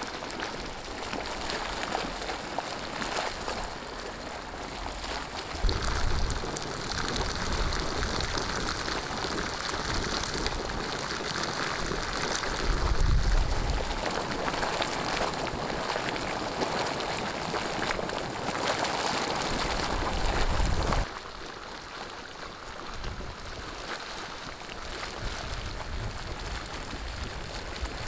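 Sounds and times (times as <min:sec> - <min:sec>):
spring water gushing and splashing: 0:00.0 - 0:28.0.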